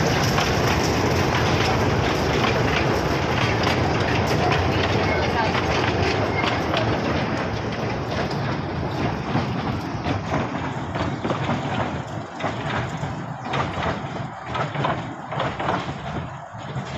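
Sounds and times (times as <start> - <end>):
ride-on train running: 0.0 - 16.9
wheels and cars rattling: 0.0 - 16.9.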